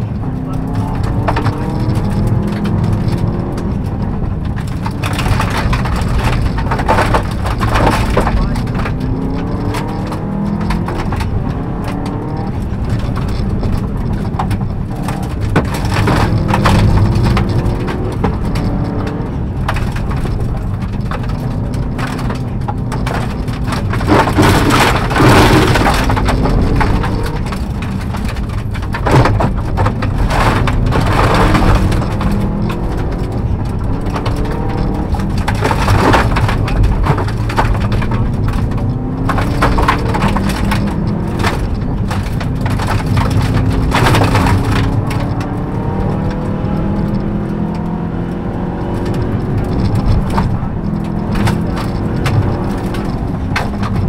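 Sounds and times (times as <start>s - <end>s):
gravel rattling against car underside: 0.0s - 54.0s
rally car engine revving: 0.0s - 54.0s.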